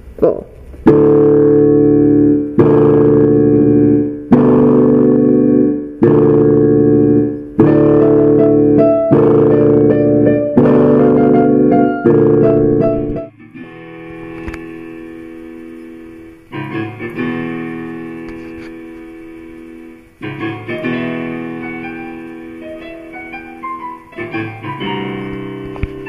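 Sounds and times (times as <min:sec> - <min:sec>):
piano chords: 0:00.8 - 0:26.0
single piano notes in treble: 0:00.8 - 0:26.0.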